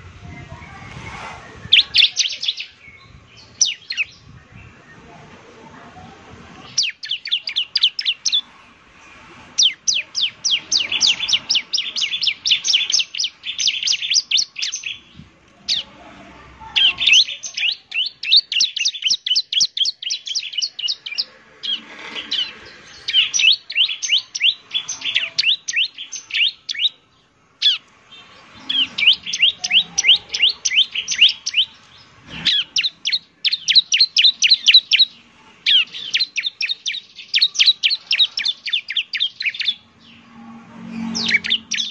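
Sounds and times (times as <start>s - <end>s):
bird singing sharp chirps: 0.3s - 4.8s, 6.7s - 8.5s, 9.6s - 15.1s, 16.8s - 27.0s, 27.6s - 41.9s.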